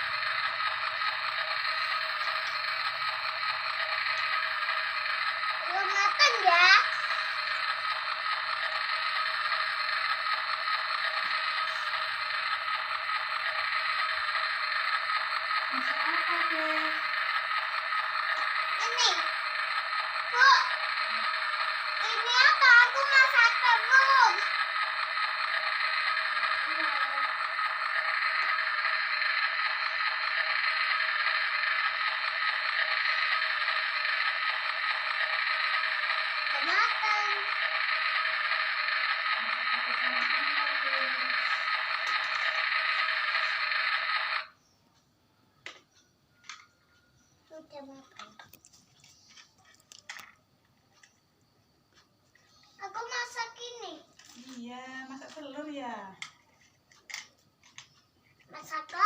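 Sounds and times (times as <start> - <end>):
toy frying sound effect: 0.0 - 44.6, 46.4 - 50.4, 52.6 - 56.4, 57.0 - 59.0.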